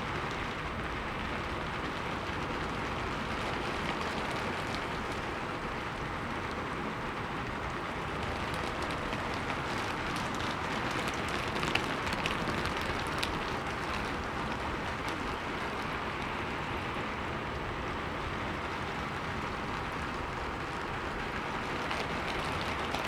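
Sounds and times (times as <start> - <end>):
raindrops ticking: 0.0 - 23.0
steady rainfall: 0.0 - 23.0.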